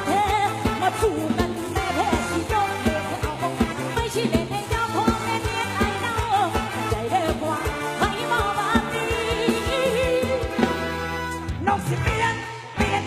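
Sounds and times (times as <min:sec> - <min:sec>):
bass: 0:00.0 - 0:13.0
steady drum beat: 0:00.0 - 0:13.0.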